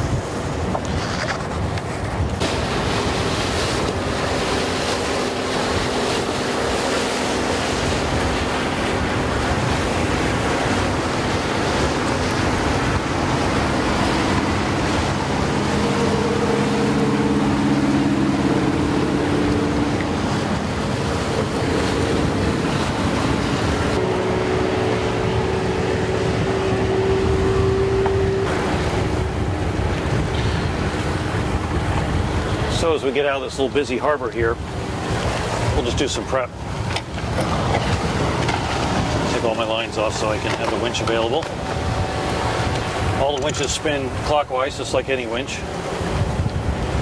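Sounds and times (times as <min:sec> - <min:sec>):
water washing along hull: 0:00.0 - 0:47.0
wind on microphone: 0:00.0 - 0:47.0
diesel engine hum: 0:02.5 - 0:33.5, 0:34.5 - 0:47.0.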